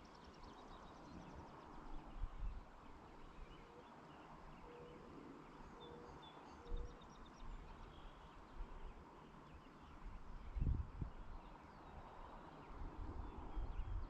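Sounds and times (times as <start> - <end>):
distant bird chirps: 0.0 - 14.0.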